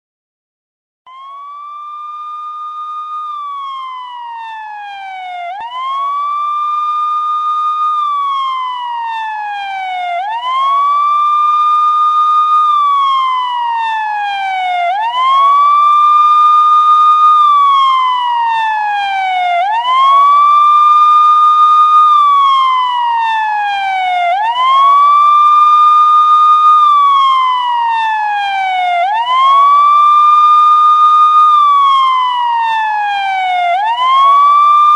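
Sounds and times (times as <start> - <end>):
police siren wailing: 1.1 - 34.9.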